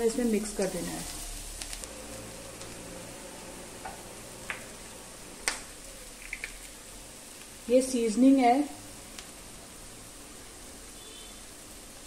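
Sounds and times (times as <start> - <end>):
butter and onions sizzling: 0.0 - 12.0.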